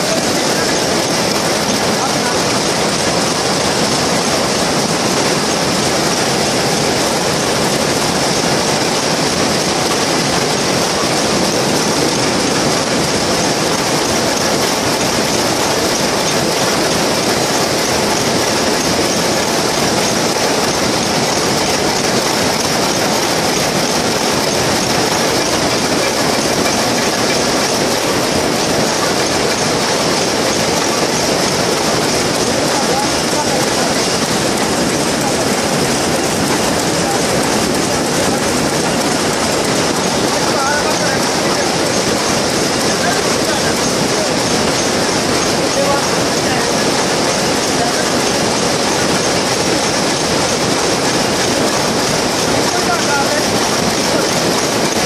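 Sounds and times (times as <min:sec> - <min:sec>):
looms clattering: 0:00.0 - 0:55.0.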